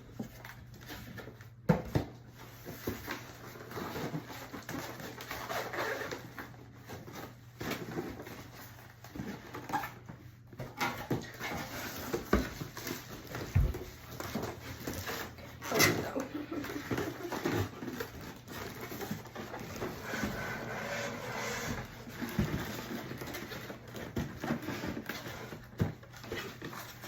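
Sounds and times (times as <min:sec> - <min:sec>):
cardboard scraping and rustling: 0:00.2 - 0:27.0.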